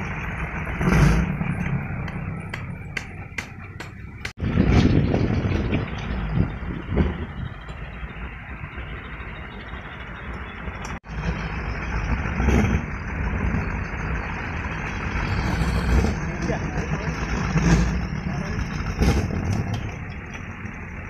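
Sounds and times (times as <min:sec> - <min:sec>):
wooden propellers whirring in wind: 0:03.4 - 0:21.0.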